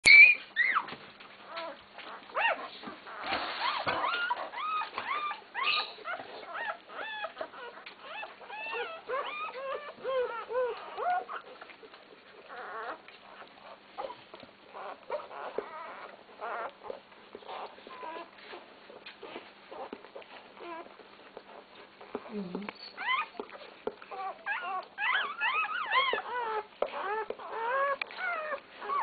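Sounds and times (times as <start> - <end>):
puppies squeaking and whimpering: 0.0 - 29.0.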